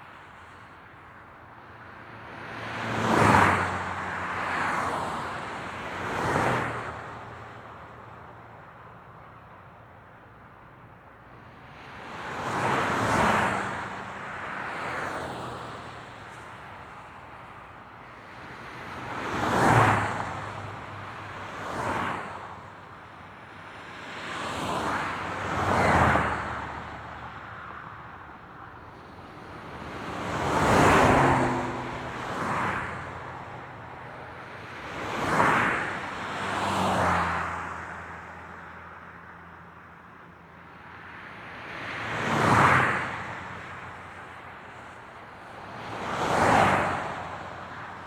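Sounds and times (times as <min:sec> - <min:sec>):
road noise: 0:00.0 - 0:48.0
vehicles passing on highway: 0:00.0 - 0:48.0.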